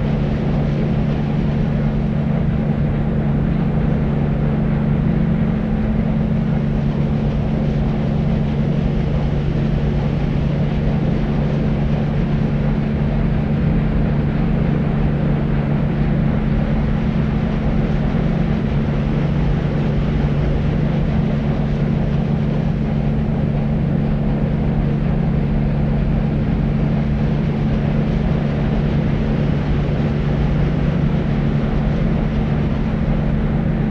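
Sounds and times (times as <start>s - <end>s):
deep white noise: 0.0s - 33.9s.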